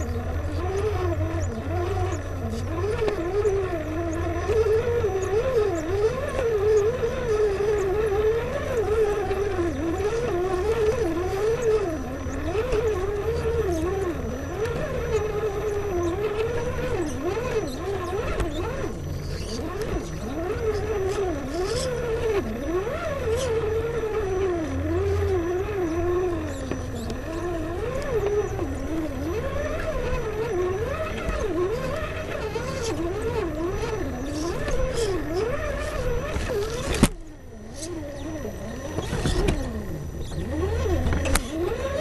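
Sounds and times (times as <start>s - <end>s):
toy car electric motor whine: 0.0s - 42.0s.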